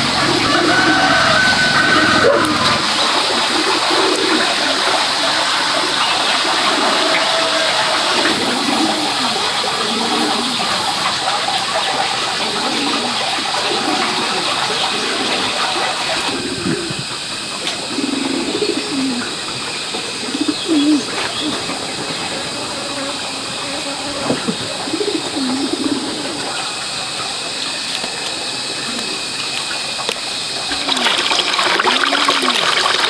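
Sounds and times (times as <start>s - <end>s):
water running and splashing: 0.0s - 33.0s.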